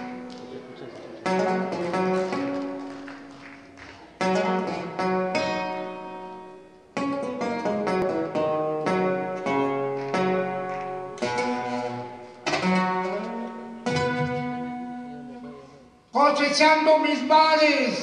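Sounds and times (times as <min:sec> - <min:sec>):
acoustic guitar chords: 0:00.0 - 0:16.1.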